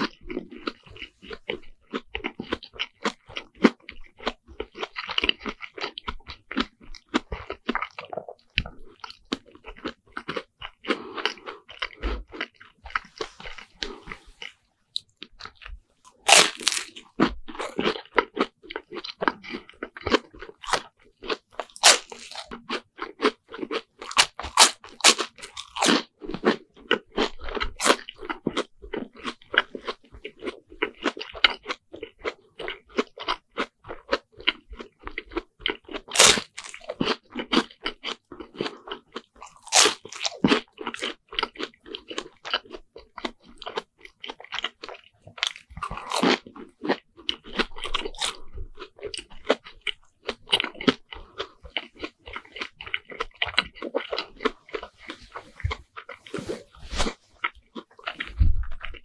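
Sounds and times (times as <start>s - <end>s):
crunchy chewing of fried bread: 0.0s - 59.0s.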